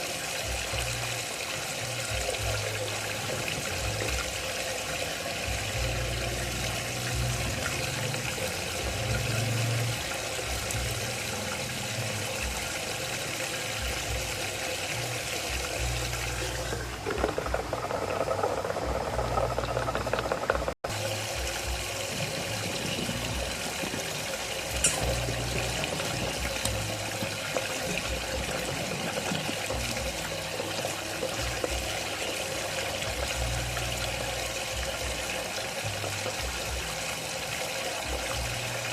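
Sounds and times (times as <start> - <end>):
water swirling and gurgling: 0.0 - 38.9.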